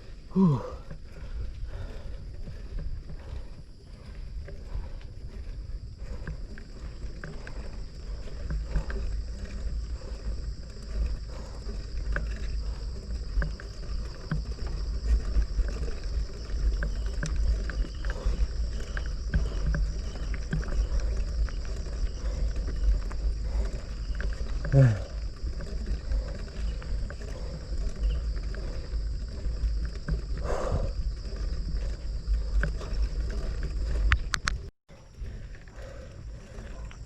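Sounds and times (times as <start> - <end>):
bicycle clicks and rattles: 0.0 - 37.0
wind buffeting microphone: 0.0 - 37.0.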